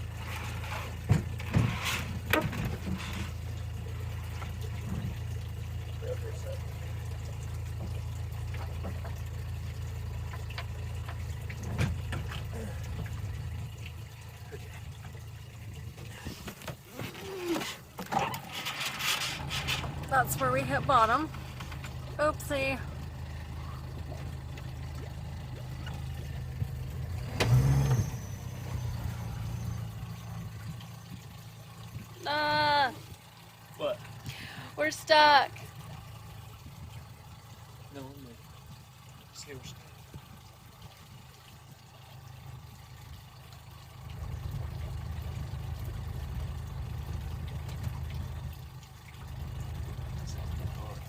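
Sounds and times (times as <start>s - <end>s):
boat engine running: 0.0s - 51.0s
small water splashes: 0.0s - 51.0s.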